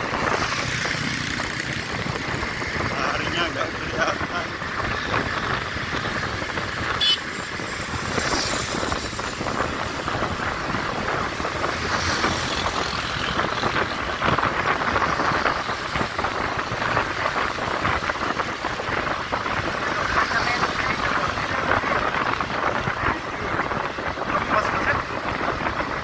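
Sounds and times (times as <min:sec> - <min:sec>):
motorcycle engines cruising: 0:00.0 - 0:26.0
road and wind noise: 0:00.0 - 0:26.0.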